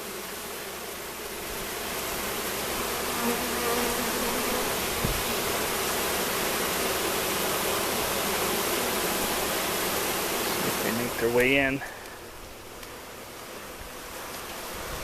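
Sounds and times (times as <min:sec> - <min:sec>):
mass of bees buzzing: 0:00.0 - 0:15.0
single bee humming close by: 0:00.0 - 0:15.0.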